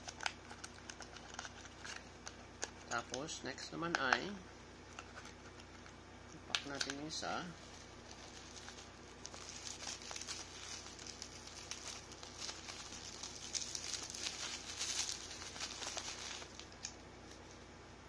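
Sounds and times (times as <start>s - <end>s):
plastic wrap crinkling: 0.0s - 3.1s, 4.9s - 17.6s.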